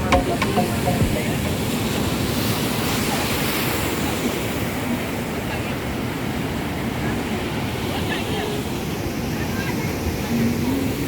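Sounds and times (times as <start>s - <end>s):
ocean surf washing on beach: 0.0s - 11.0s.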